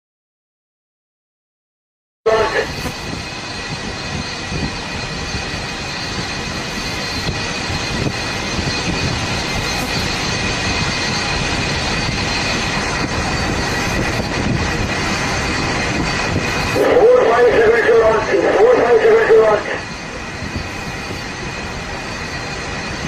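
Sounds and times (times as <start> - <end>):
thin high whining tones: 2.3 - 23.0.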